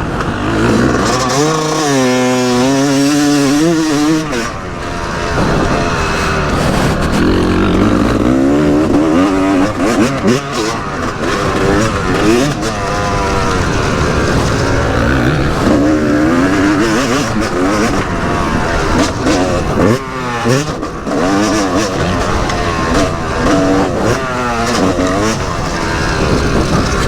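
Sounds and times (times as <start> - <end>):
motocross engine revving: 0.0 - 27.0.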